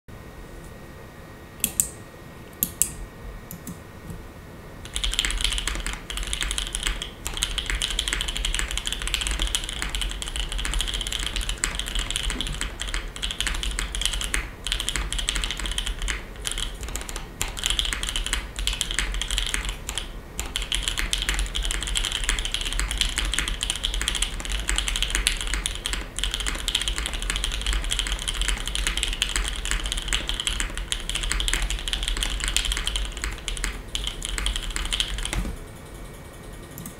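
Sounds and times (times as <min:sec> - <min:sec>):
fast typing on mechanical keyboard: 0:04.8 - 0:35.6.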